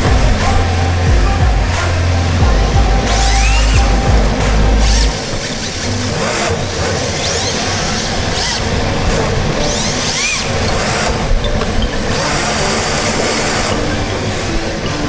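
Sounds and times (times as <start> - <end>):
electric motor whining: 0.0 - 15.0
steady rush of noise: 0.0 - 15.0.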